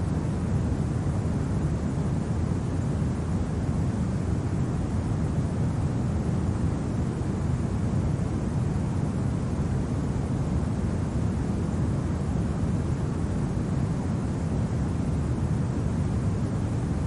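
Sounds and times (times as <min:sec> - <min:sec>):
low rumble of wind: 0:00.0 - 0:17.0.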